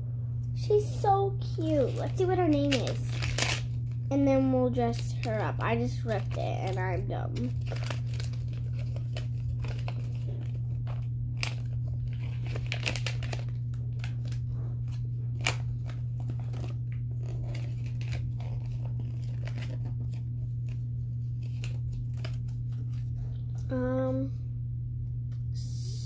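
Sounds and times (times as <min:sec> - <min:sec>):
steady low hum: 0:00.0 - 0:26.0
plastic wrapper crinkling: 0:01.5 - 0:04.1, 0:04.8 - 0:23.4.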